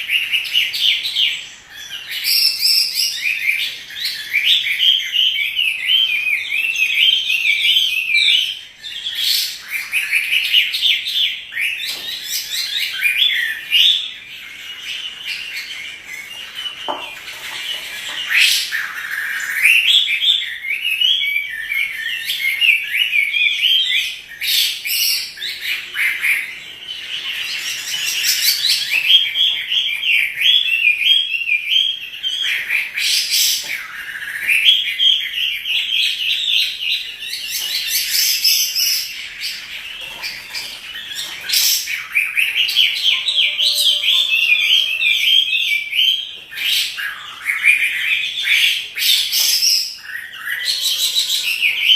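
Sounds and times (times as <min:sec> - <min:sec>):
bird warbling song: 0:00.0 - 0:51.9.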